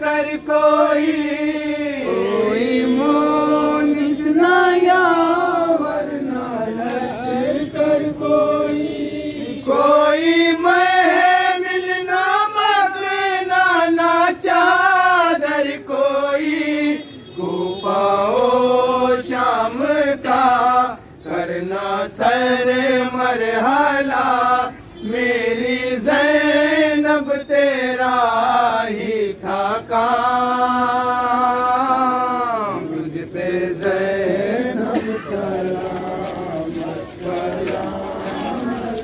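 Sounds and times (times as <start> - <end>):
men chanting a lament: 0.0 - 39.0.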